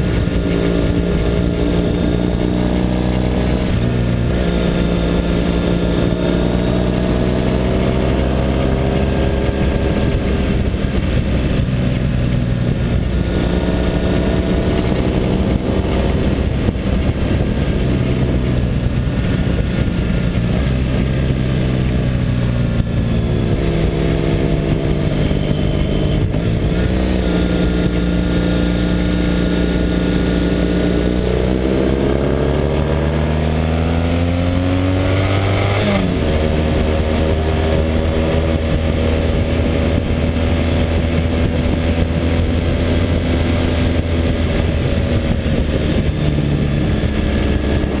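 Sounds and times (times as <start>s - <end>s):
motorcycle engine running: 0.0s - 48.0s
wind rush: 0.0s - 48.0s.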